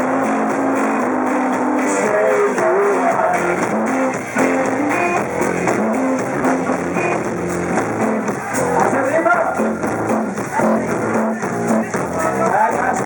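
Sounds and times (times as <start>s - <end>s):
band playing live rock music: 0.0s - 13.0s
electric guitar melody: 0.0s - 13.0s.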